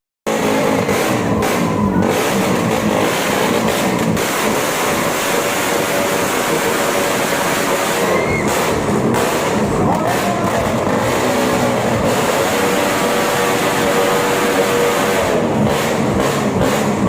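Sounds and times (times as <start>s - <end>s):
motorcycle revving: 0.3s - 17.0s.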